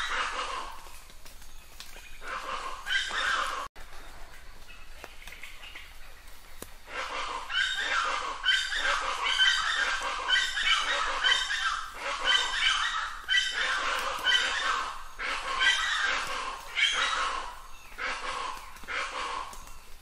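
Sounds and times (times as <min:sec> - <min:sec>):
bird harsh raucous calls: 0:00.0 - 0:20.0.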